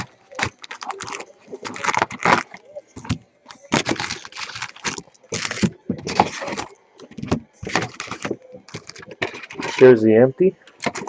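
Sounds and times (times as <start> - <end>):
card pack wrappers crinkling and tearing: 0.0 - 10.0, 10.6 - 11.0
cards being handled: 0.0 - 10.0.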